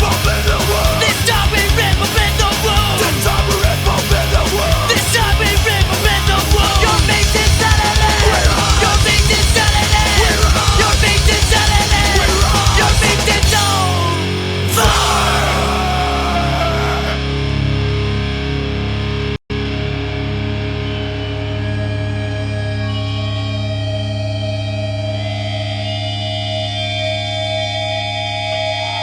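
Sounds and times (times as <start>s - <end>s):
punk rock music: 0.0s - 28.8s.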